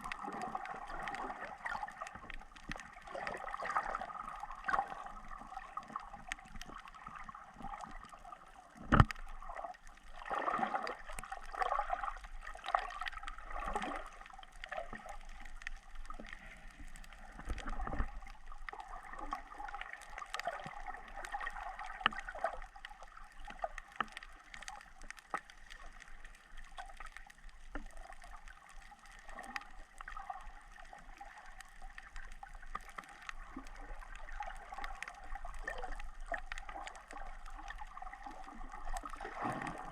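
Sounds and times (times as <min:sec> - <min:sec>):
small scattered clicks: 0:00.0 - 0:39.9
water gurgling and trickling: 0:00.0 - 0:39.9.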